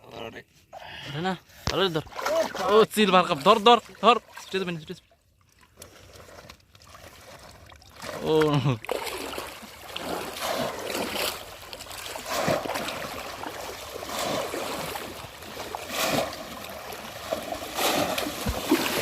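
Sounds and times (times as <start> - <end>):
shallow water splashing: 1.7 - 19.0.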